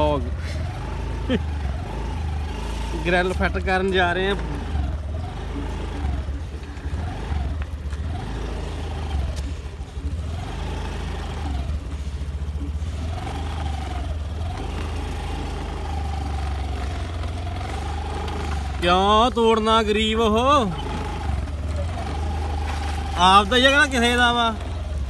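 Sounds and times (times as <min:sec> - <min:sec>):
motorcycle engine whining: 0:00.0 - 0:25.0.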